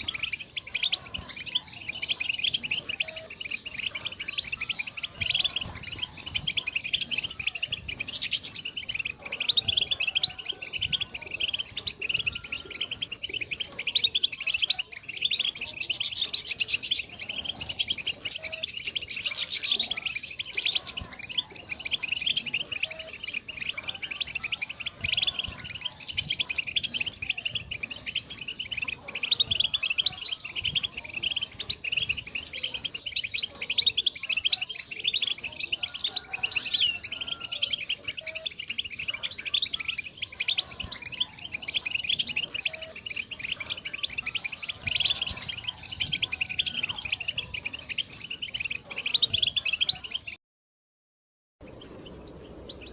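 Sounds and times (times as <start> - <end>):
goldfinch twittering: 0.0 - 50.4, 51.6 - 52.9.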